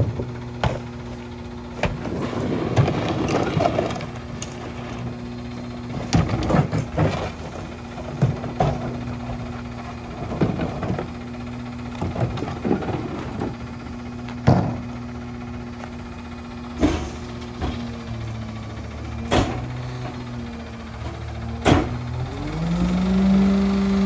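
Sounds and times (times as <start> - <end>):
bangs of carts emptied into truck: 0.0 - 15.0, 15.8 - 22.2
diesel engine idling: 0.0 - 24.0.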